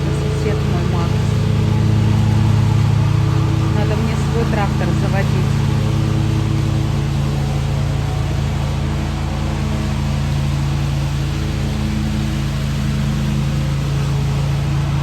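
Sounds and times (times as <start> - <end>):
lawn tractor engine humming: 0.0 - 15.0.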